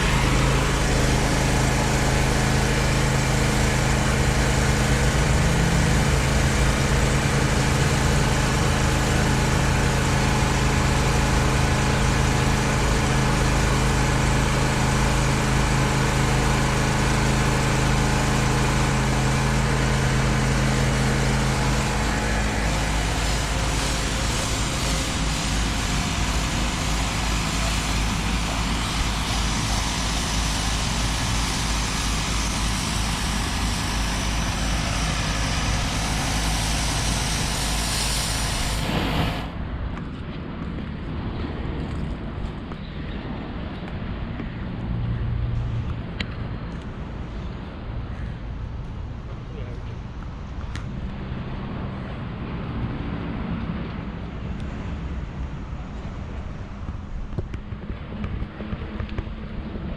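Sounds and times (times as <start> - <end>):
engine low rumble: 0.0 - 59.9
steady hum: 0.0 - 59.9.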